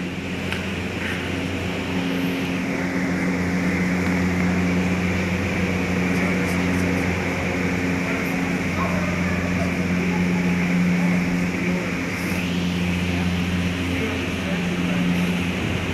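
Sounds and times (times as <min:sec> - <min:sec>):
machinery hum: 0:00.0 - 0:15.9.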